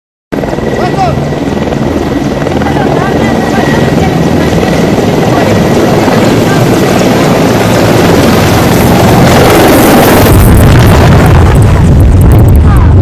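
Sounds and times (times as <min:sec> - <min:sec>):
helicopters flying low: 0:00.3 - 0:13.0
rotor downwash buffeting microphone: 0:00.4 - 0:13.0.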